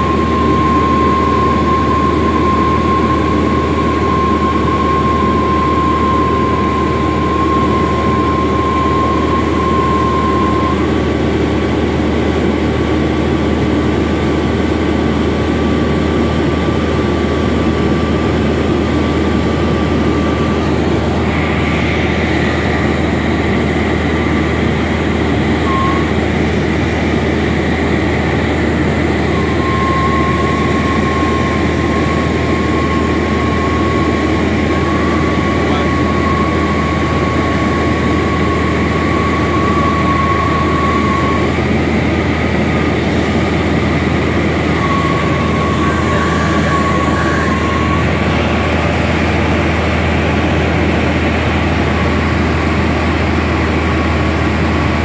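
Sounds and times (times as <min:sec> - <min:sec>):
high whine: 0:00.0 - 0:55.0
light aircraft engine drone: 0:00.0 - 0:55.0.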